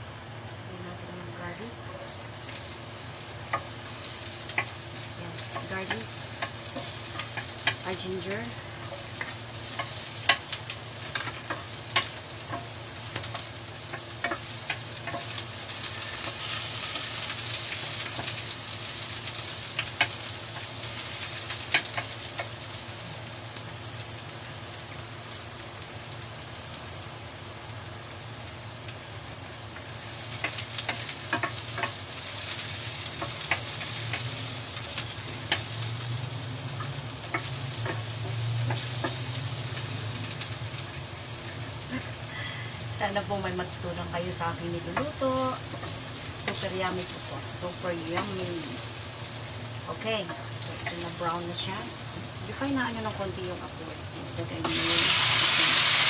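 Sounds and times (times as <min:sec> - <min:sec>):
garlic sizzling in oil: 0:01.6 - 0:56.0.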